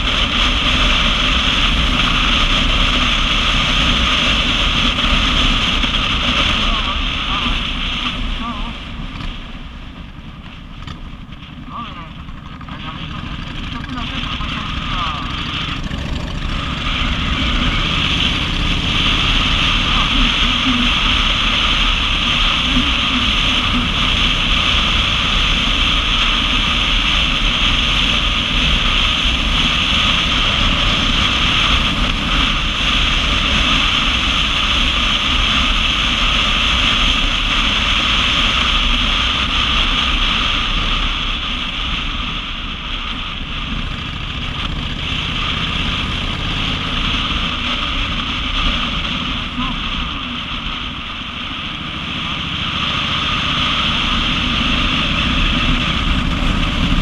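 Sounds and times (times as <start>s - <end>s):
motorcycle engine and tyres rumbling: 0.0s - 57.0s
wind rush on microphone: 0.0s - 57.0s.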